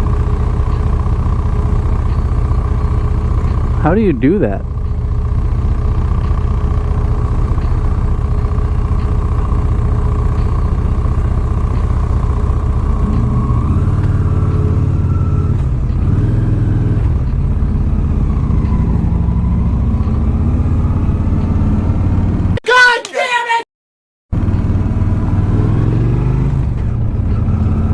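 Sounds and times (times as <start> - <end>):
motorcycle engine and road rumble: 0.0 - 22.6, 24.3 - 27.9.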